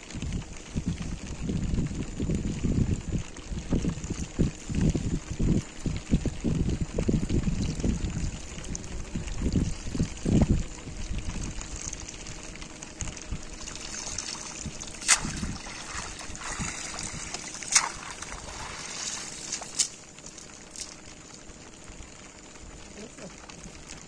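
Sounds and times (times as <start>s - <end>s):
water trickling and sloshing: 4.0s - 24.0s.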